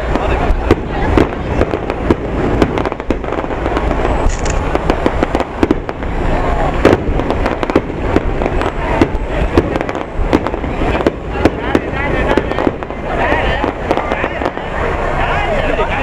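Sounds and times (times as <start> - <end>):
firework shells bursting: 0.0 - 14.8
sharp bangs and crackles: 0.0 - 15.9
continuous low rumble: 0.0 - 16.0.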